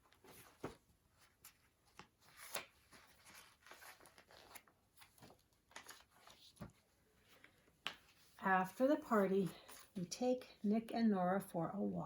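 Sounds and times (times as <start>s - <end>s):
paper pages rustling: 0.0s - 10.1s.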